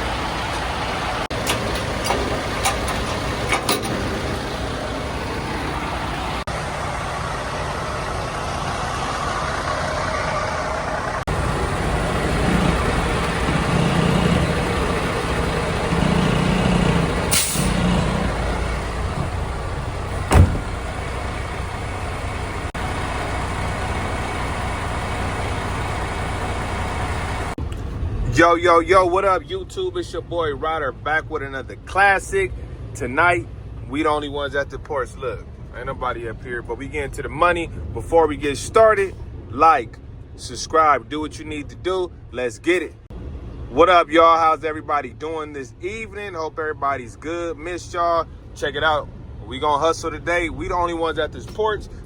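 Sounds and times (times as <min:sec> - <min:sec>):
semi truck engine and road noise: 0:00.0 - 0:52.0.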